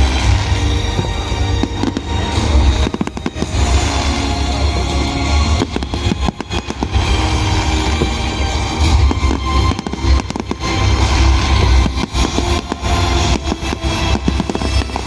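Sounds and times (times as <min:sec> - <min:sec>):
deep rumble: 0:00.0 - 0:15.0
fireworks bangs and crackles: 0:00.0 - 0:15.0
music playing: 0:00.0 - 0:15.0.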